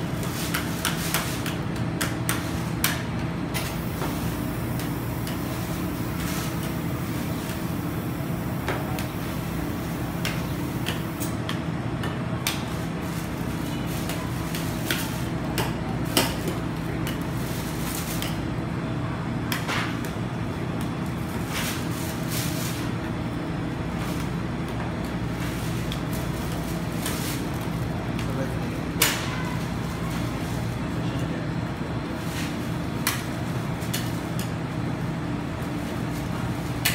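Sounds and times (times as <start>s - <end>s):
low machine hum: 0.0s - 36.9s.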